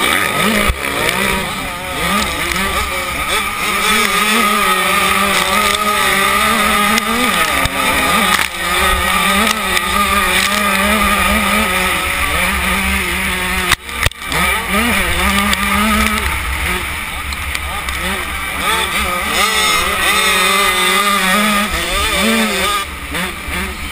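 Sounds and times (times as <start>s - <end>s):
two-stroke motorcycle engine revving: 0.0s - 23.9s.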